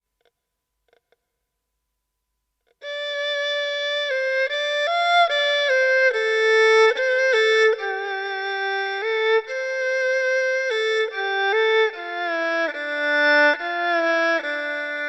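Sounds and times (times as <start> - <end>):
solo bowed erhu melody: 2.8 - 15.0.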